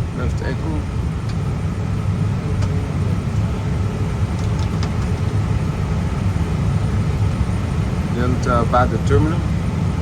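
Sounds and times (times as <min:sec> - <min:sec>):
cockpit low rumble: 0:00.0 - 0:10.0.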